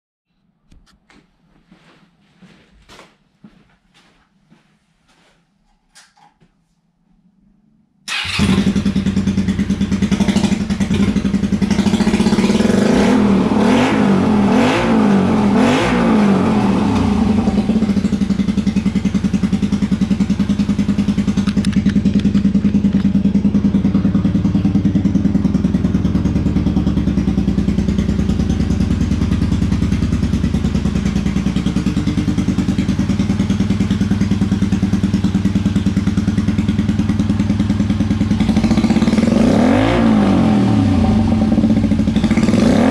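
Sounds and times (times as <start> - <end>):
motorcycle engine revving and idling: 8.1 - 42.9.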